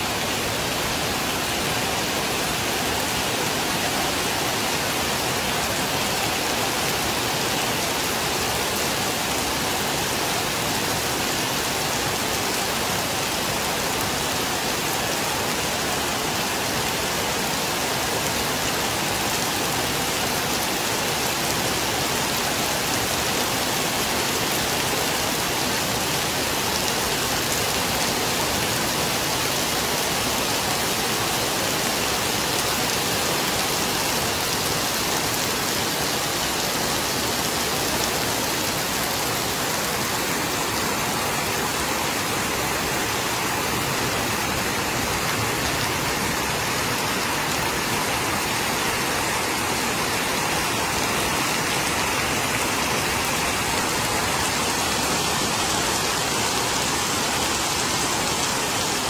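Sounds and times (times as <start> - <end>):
heavy rain on metal roofs: 0.0 - 59.0.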